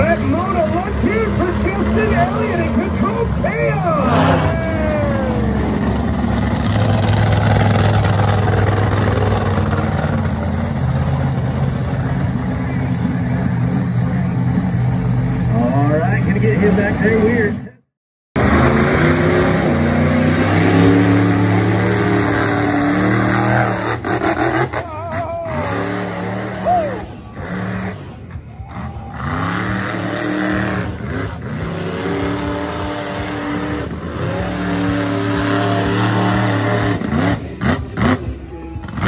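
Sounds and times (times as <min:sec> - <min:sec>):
truck engine revving hard: 0:00.0 - 0:17.6, 0:18.4 - 0:39.0.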